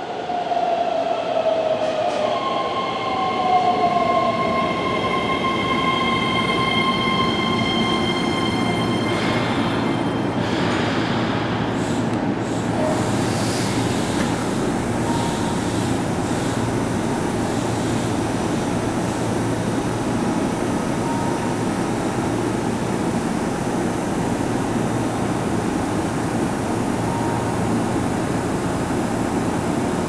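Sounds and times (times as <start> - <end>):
electric train humming: 0.0 - 10.6, 11.6 - 30.0.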